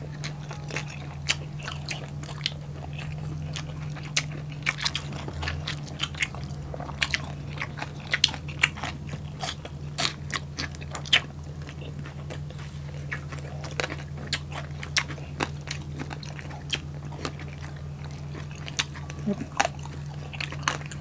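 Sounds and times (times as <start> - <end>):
low steady hum: 0.0 - 21.0
people chewing crispy food: 0.0 - 21.0.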